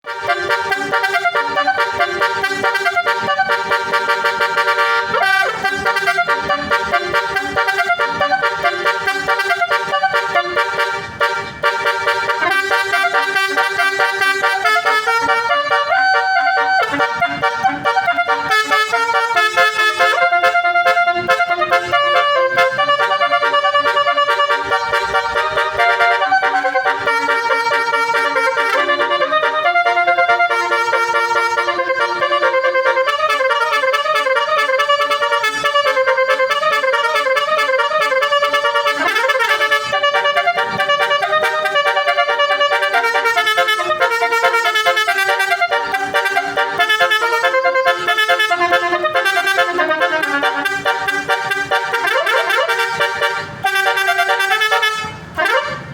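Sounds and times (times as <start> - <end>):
multi-tone horn playing a tune: 0.0 - 55.9.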